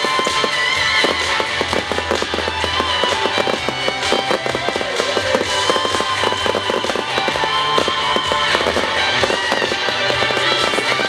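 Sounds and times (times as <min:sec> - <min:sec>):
fireworks crackling and popping: 0:00.0 - 0:11.0
music with bass line: 0:00.0 - 0:11.0.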